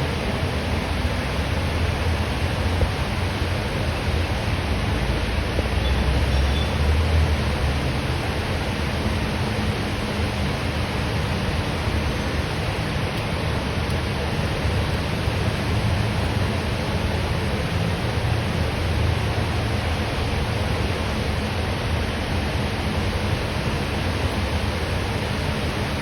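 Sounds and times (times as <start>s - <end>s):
rain falling: 0.0s - 26.0s
road traffic rumble: 0.0s - 26.0s.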